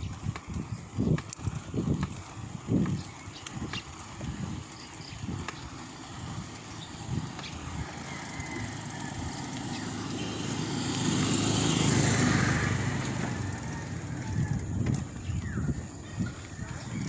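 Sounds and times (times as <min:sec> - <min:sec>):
motorcycle passing by: 0:00.0 - 0:17.0.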